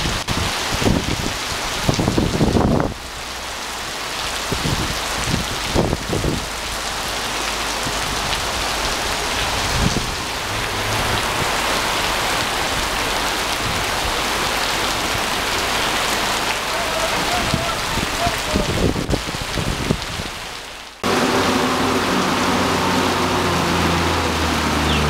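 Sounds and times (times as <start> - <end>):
heavy rain on pavement: 0.0 - 25.0.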